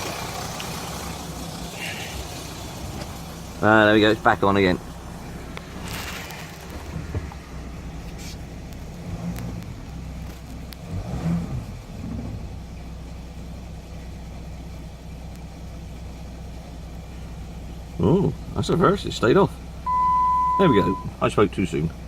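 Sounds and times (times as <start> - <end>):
diesel engine idling with rattle: 0.0 - 22.0.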